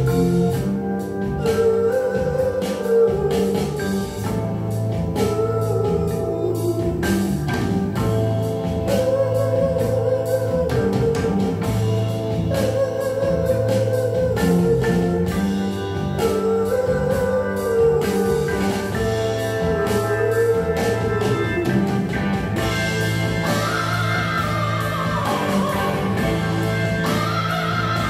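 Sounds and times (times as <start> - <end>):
hard rock music over loudspeakers: 0.0 - 28.0.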